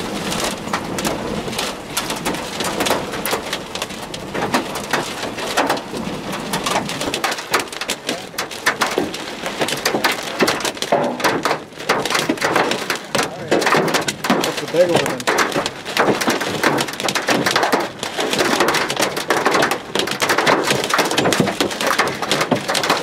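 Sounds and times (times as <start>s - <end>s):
hailstones striking hard surfaces: 0.0s - 23.0s
hiss of heavy precipitation: 0.0s - 23.0s.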